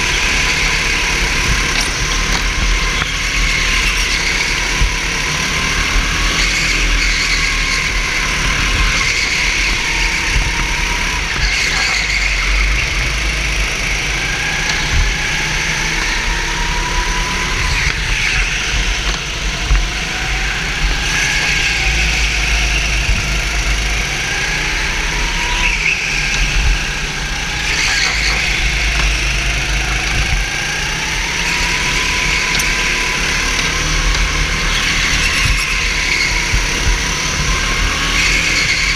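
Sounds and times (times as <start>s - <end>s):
go-kart engine revving: 0.0s - 38.9s
low rumble: 0.0s - 38.9s.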